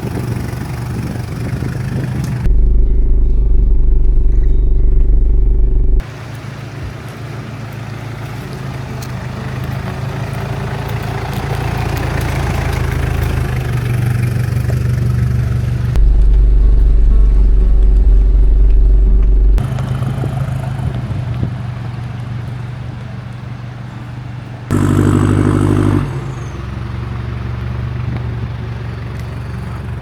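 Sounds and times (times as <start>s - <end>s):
engine and road rumble: 0.0s - 30.0s.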